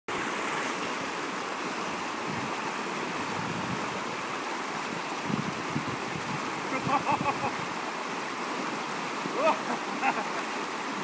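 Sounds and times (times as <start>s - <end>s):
fast water rushing: 0.1s - 11.0s.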